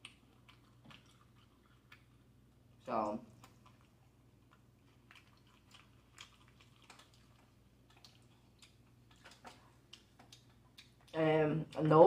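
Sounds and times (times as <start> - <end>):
chewing seafood: 0.0 - 12.0.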